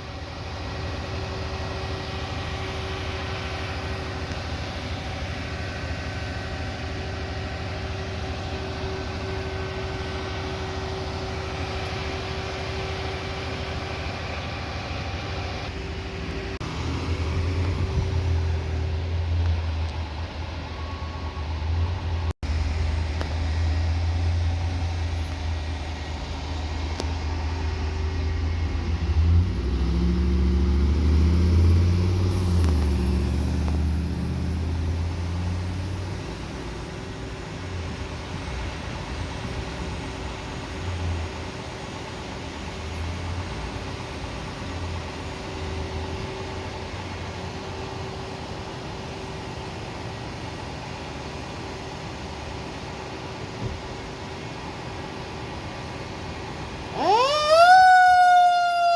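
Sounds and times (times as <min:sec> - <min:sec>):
fire truck engine rumble: 0:00.0 - 0:58.9.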